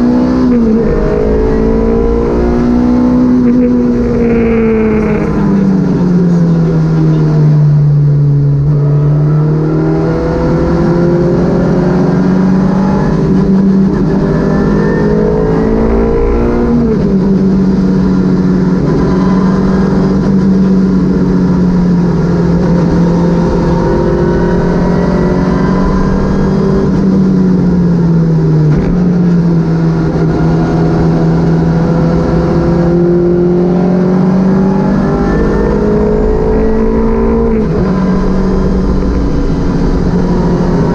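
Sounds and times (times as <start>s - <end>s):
rally car engine driven hard: 0.0s - 40.9s.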